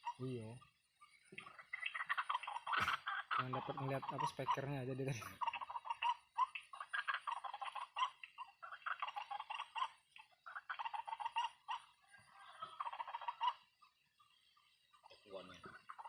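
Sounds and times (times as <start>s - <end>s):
bird chattering calls: 0.0s - 16.0s.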